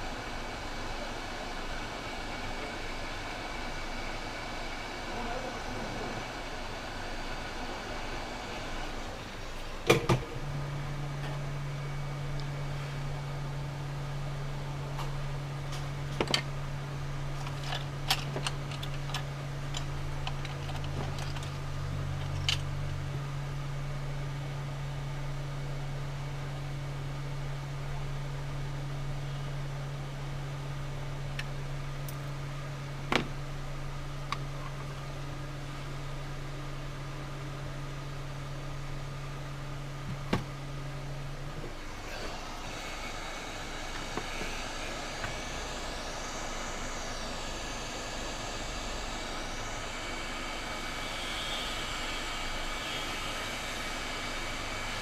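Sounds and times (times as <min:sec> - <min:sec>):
fan-like hum: 0:00.0 - 0:55.0.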